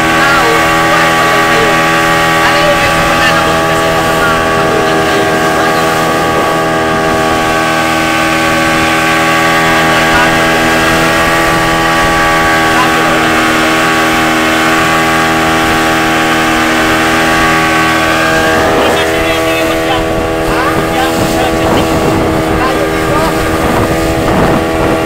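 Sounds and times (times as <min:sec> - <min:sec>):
motorboat engine drone: 0:00.0 - 0:25.0
wind and water hiss: 0:00.0 - 0:25.0.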